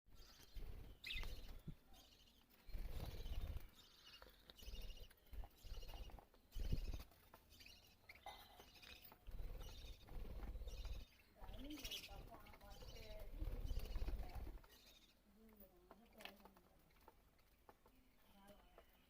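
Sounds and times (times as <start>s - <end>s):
parrots chirping and twittering: 0.1s - 19.0s.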